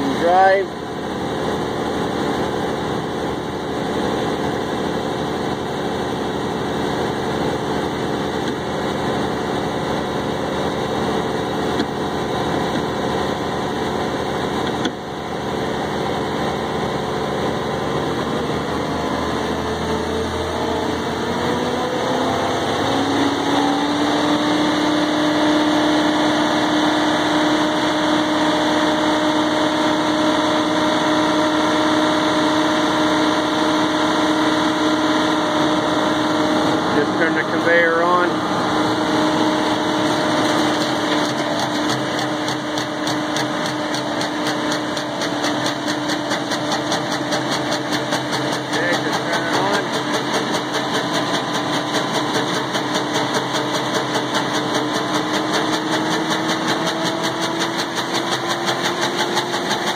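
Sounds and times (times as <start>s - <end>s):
wood grinder engine running: 0.0s - 59.9s.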